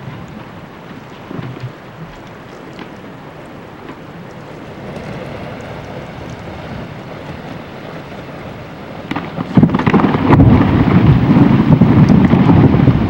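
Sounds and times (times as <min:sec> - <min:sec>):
rushing wind and water: 0:00.0 - 0:13.0.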